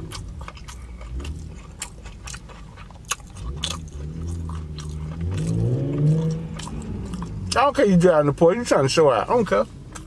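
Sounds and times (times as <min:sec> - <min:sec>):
chewing with mouth clicks: 0:00.0 - 0:07.9, 0:09.2 - 0:10.0.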